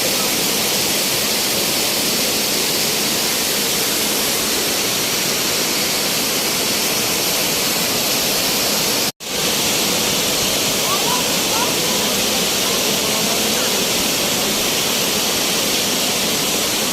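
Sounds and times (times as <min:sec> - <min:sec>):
waterfall roaring: 0:00.0 - 0:16.9.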